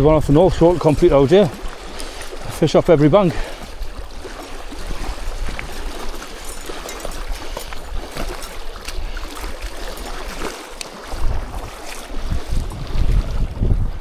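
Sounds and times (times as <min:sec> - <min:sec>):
small water splashes: 0:00.0 - 0:14.0
small waves lapping: 0:00.0 - 0:14.0
wind buffeting microphone: 0:00.0 - 0:14.0.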